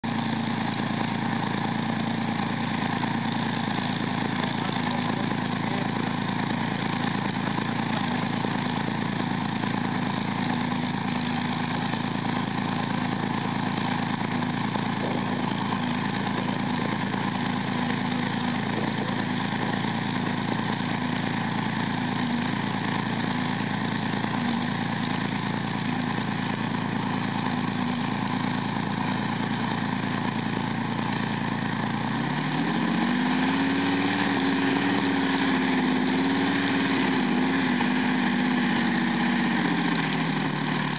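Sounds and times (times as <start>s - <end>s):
tank engine idling: 0.0s - 40.9s.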